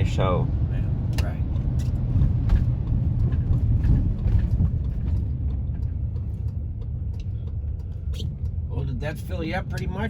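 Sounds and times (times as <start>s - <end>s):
car rumble from inside cabin: 0.0s - 10.0s.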